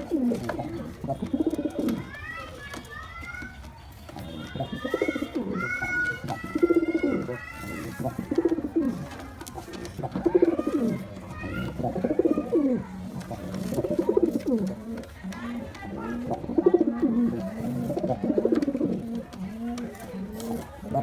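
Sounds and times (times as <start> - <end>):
pigeon cooing: 0.0 - 2.1, 4.7 - 21.0.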